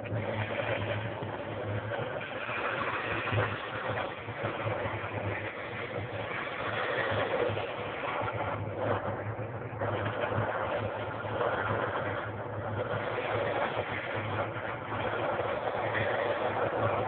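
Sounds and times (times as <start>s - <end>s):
low pulsing hum: 0.0s - 17.0s
wallpaper steamer hissing: 0.0s - 17.0s.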